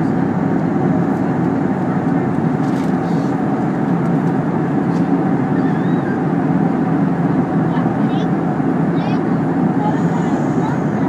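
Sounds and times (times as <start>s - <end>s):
air rushing along fuselage: 0.0s - 11.0s
airliner turbofans humming: 0.0s - 11.0s.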